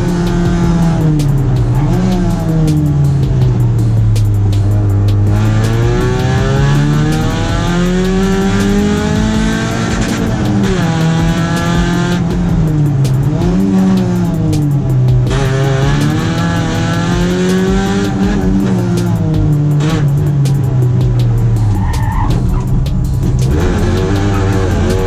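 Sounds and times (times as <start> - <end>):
car engine revving hard: 0.0 - 25.0.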